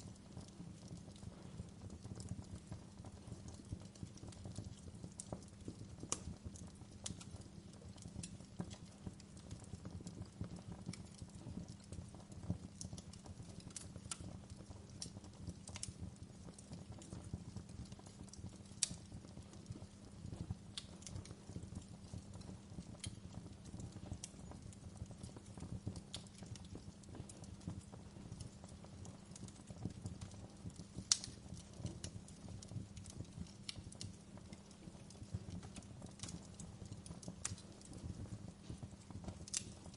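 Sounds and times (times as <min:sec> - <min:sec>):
fire crackling: 0:00.0 - 0:39.9
low rumble of burning: 0:00.0 - 0:39.9.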